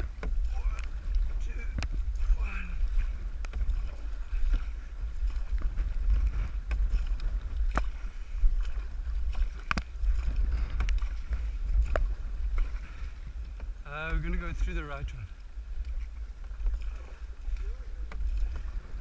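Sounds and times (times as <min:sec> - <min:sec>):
paddles splashing in water: 0:00.0 - 0:19.0
wind rumble on microphone: 0:00.0 - 0:19.0.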